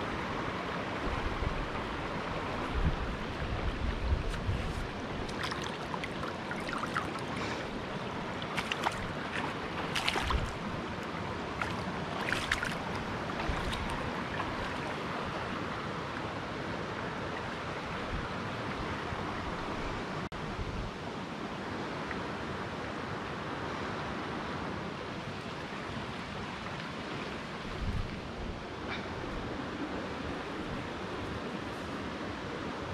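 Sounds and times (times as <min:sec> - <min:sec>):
river rushing over rocks: 0:00.0 - 0:32.9.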